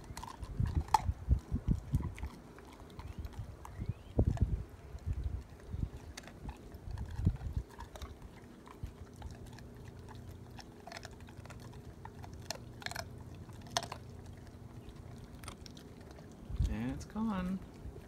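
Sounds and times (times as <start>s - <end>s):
dog crunching bone: 0.0s - 16.8s.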